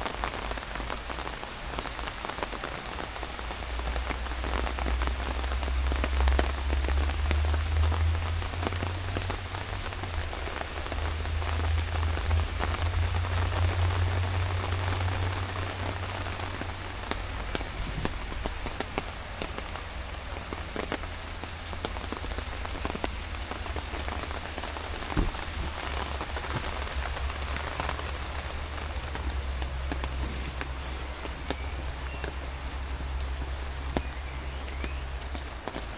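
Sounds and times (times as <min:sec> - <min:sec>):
heavy rain pouring: 0:00.0 - 0:35.9
raindrop taps: 0:00.0 - 0:35.9.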